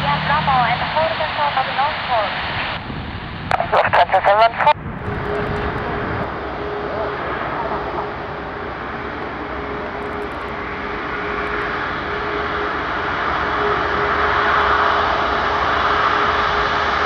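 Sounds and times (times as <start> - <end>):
jet engine rumble with whine: 0.0 - 17.0.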